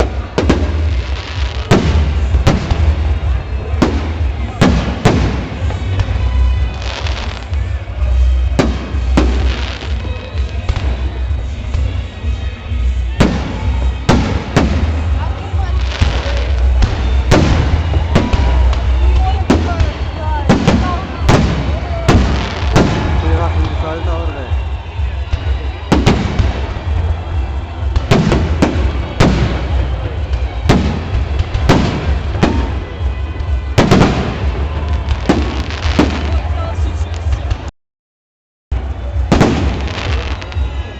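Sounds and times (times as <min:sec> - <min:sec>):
fireworks bursting in sharp bangs: 0:00.0 - 0:37.7, 0:38.8 - 0:40.9
fireworks rumble and crackle: 0:00.0 - 0:37.7, 0:38.7 - 0:40.9
music playing: 0:00.0 - 0:37.7, 0:38.7 - 0:40.9.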